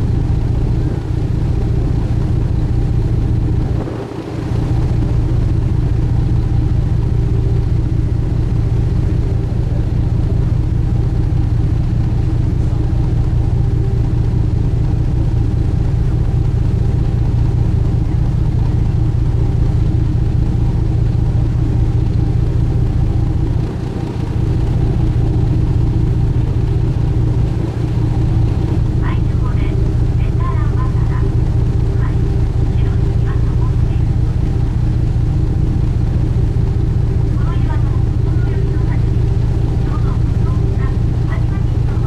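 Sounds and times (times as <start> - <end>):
boat engine droning: 0.0 - 42.0
water wash: 0.0 - 42.0.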